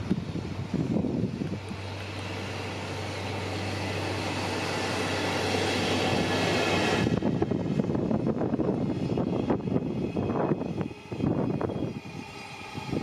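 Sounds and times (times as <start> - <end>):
locomotive low hum: 0.0 - 13.0
train wheels on rail: 0.0 - 13.0.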